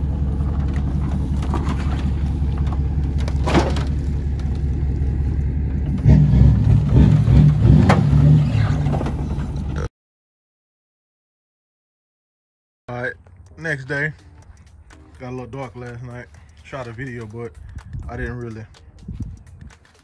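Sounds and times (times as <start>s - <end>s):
diesel engine idling: 0.0s - 9.9s, 12.9s - 19.7s.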